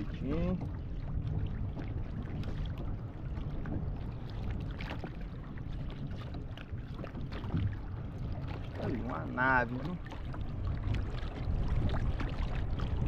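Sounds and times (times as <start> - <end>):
small water splashes: 0.0 - 13.0
water lapping against kayak: 0.0 - 13.0
wind rumble on microphone: 0.0 - 13.0.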